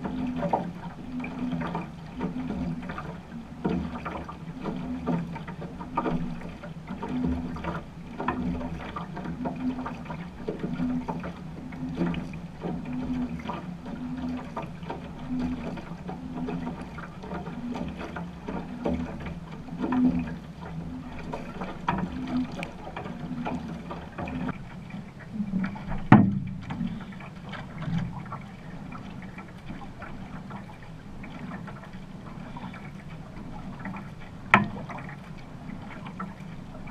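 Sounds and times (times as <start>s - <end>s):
paddle pulling through water: 0.0s - 36.9s
water washing along hull: 0.0s - 36.9s.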